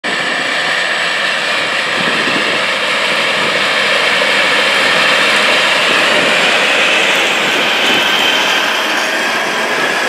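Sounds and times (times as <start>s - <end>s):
tractor diesel engine drone: 0.0s - 10.0s.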